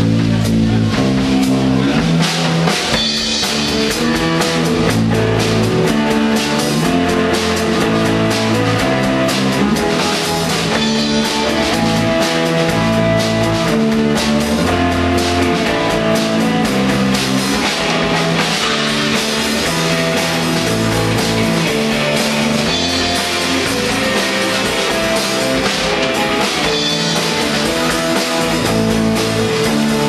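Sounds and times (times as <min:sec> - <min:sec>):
bass guitar: 0:00.0 - 0:30.0
drum kit beat: 0:00.0 - 0:30.0
electric guitar: 0:00.0 - 0:30.0.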